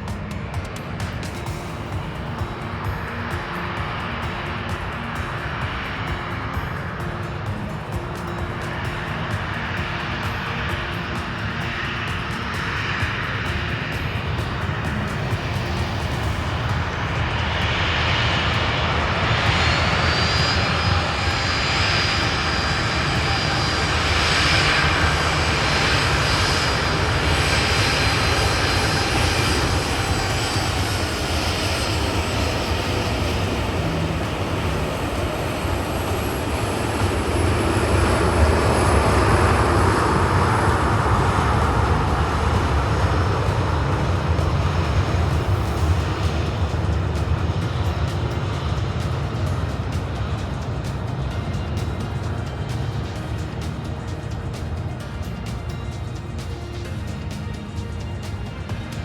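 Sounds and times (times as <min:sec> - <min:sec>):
high engine whine: 0:00.0 - 0:59.0
jet engines running: 0:00.0 - 0:59.0.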